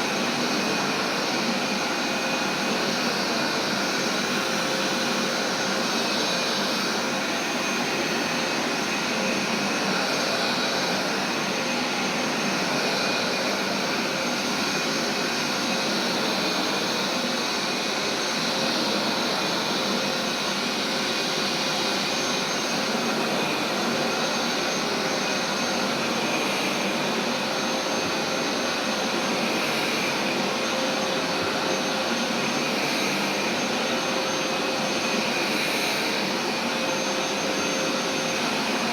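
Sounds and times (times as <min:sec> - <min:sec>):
steam cleaner suction motor: 0:00.0 - 0:38.9.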